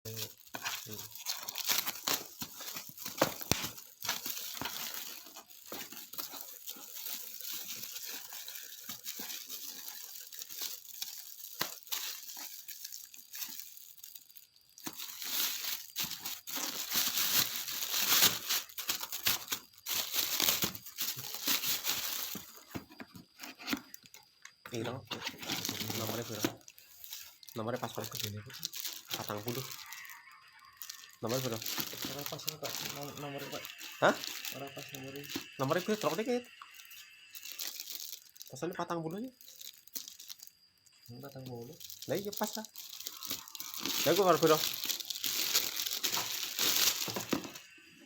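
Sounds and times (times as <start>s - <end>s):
packaging crinkling and tearing: 0.1s - 40.5s, 41.1s - 47.9s.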